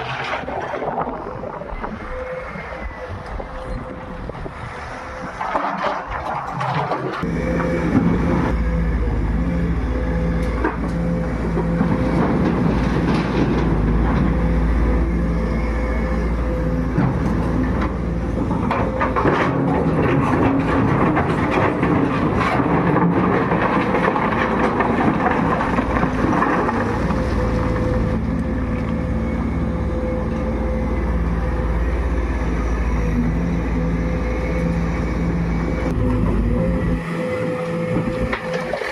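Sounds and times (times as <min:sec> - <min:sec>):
excavator diesel engine under load: 0:00.0 - 0:38.9
knocks of excavator working: 0:05.1 - 0:30.9, 0:31.8 - 0:38.9.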